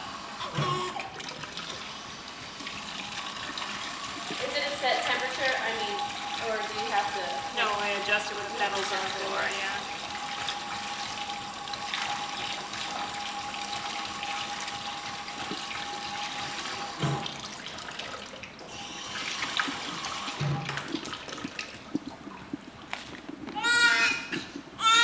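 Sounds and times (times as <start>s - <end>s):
water pouring from sink tap: 0.0s - 23.9s.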